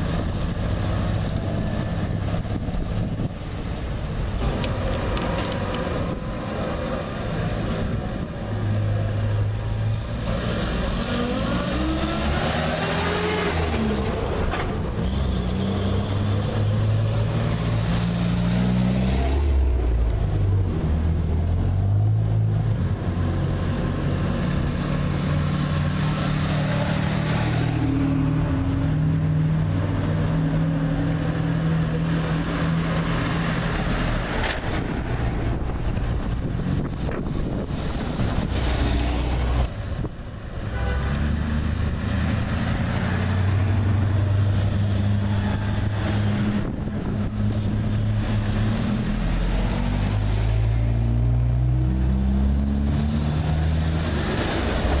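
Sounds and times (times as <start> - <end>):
car engines driving past: 3.6 - 55.0.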